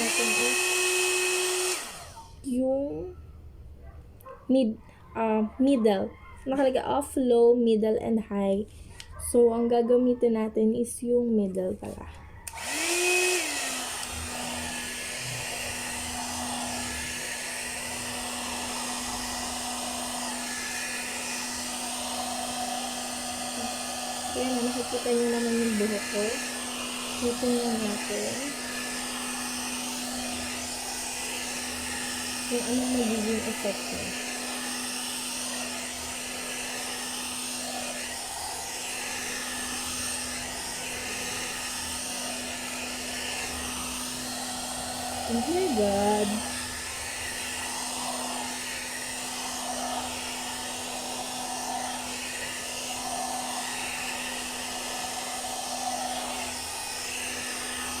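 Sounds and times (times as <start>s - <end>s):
hair dryer motor hum: 0.0s - 2.7s, 12.4s - 58.0s.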